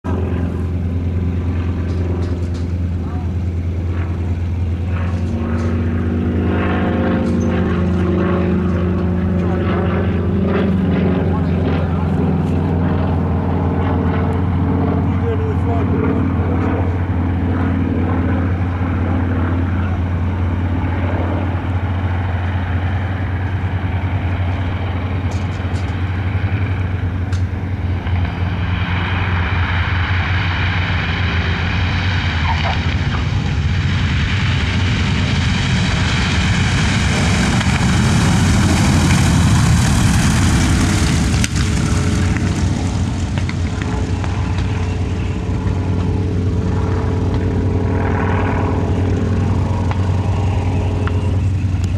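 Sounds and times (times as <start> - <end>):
aircraft engines droning: 0.0 - 51.9.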